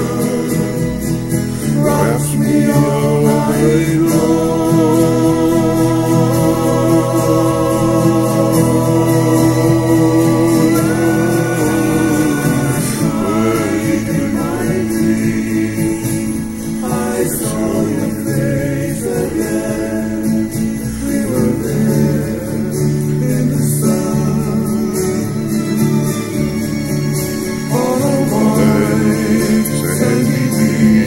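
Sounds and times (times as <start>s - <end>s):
man singing a slow song: 0.0s - 26.2s, 27.7s - 31.0s
sustained instrumental backing: 0.0s - 31.0s.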